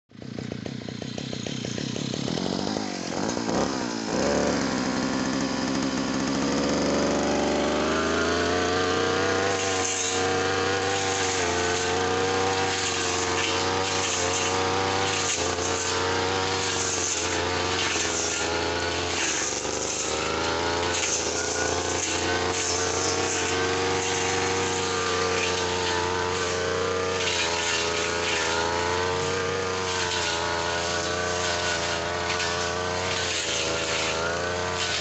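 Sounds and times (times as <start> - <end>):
small two-stroke engine revving: 0.1 - 35.0.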